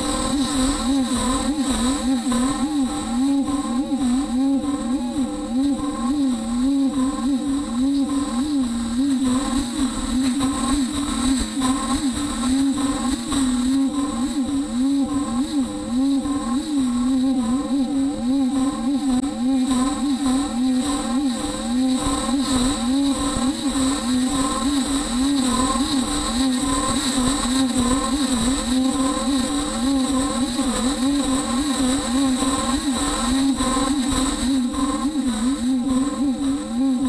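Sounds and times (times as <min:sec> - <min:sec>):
router motor swooping whine: 0:00.0 - 0:37.0
steady high-pitched whine: 0:00.0 - 0:37.0.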